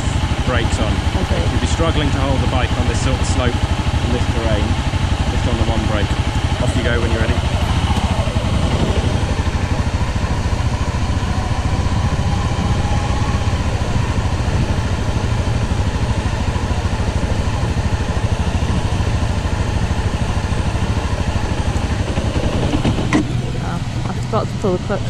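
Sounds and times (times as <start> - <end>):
motorbike engine running: 0.0 - 25.0.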